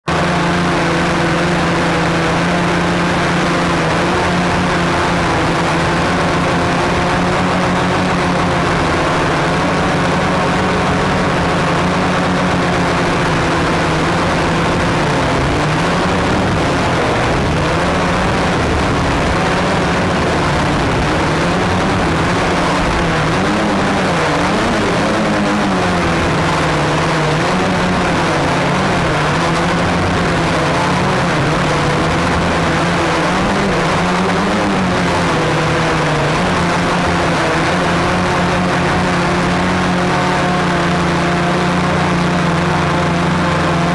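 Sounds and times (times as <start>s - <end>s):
drone motors humming: 0.0s - 43.9s.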